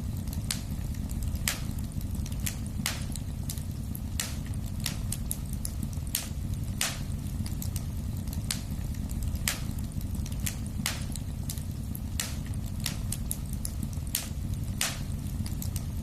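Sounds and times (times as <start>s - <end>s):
burning logs popping and crackling: 0.0s - 16.0s
low rumble of flames: 0.0s - 16.0s.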